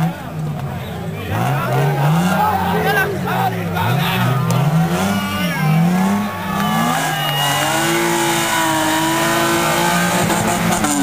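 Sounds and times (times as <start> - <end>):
rally car engines revving hard: 0.0 - 11.0.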